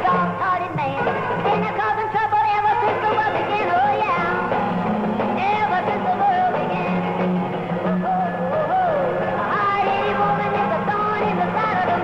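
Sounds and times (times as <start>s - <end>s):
woman singing: 0.0s - 4.5s, 5.4s - 7.0s, 8.0s - 12.0s
backing band: 0.0s - 12.0s.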